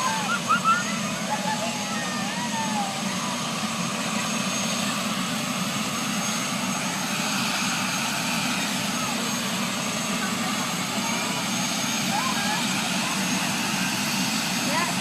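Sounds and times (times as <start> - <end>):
helicopter rotor and engine drone: 0.0 - 15.0.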